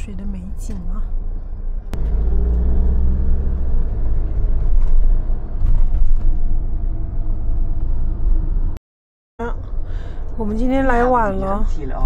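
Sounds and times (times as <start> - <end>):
van engine and road drone: 0.0 - 8.8, 9.4 - 12.0.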